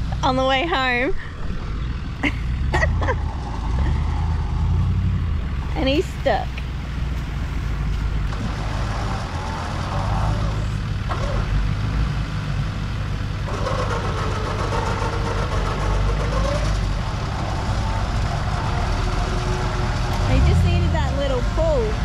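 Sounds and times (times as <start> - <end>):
off-road vehicle engines running: 0.0 - 22.0.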